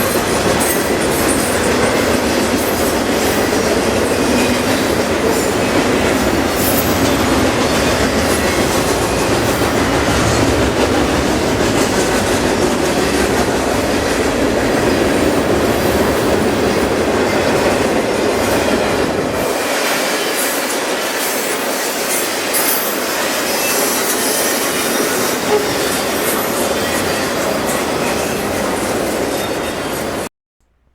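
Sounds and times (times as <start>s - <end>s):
train wheels rumbling on rails: 0.0s - 30.3s.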